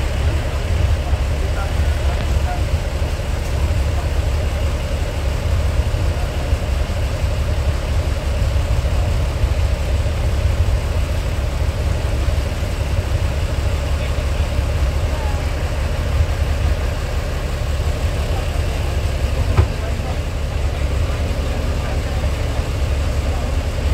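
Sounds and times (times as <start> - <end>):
diesel railcar engine rumble: 0.0 - 23.9.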